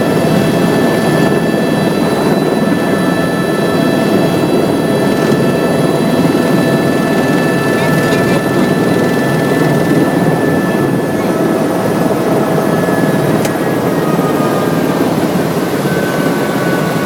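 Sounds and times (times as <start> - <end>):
constant whining tones: 0.0 - 17.0
helicopter rotor rumble: 0.0 - 17.0.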